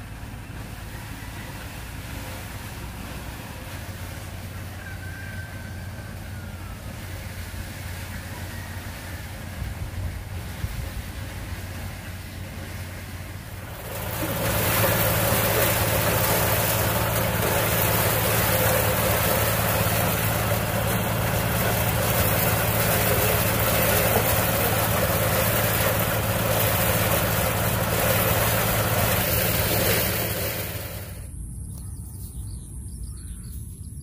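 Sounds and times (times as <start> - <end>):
engine running: 0.0 - 31.4.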